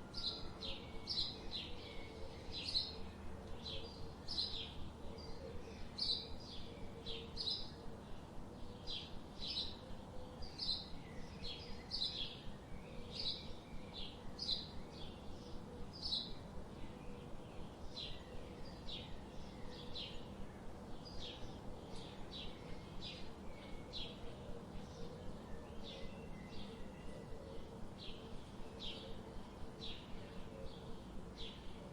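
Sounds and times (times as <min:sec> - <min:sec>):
low background hiss: 0:00.0 - 0:31.9.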